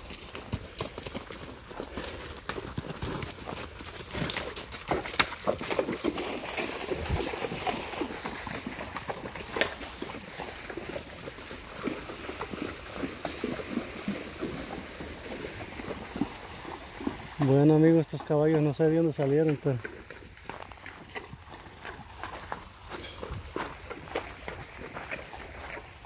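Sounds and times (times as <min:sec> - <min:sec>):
hooves clopping on stones: 0:00.0 - 0:26.0.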